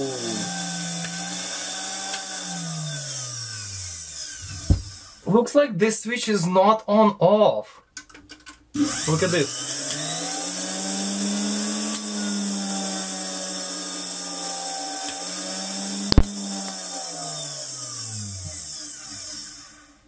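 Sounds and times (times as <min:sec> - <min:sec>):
mixer motor humming: 0:00.0 - 0:05.3, 0:08.8 - 0:20.0.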